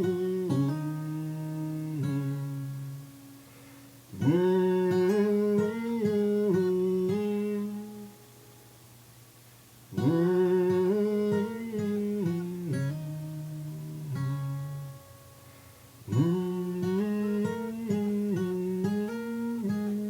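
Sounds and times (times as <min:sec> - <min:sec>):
person humming a melody: 0:00.0 - 0:03.2, 0:04.2 - 0:08.2, 0:10.0 - 0:15.0, 0:16.1 - 0:20.0
acoustic guitar riff: 0:00.0 - 0:08.8, 0:09.8 - 0:20.0.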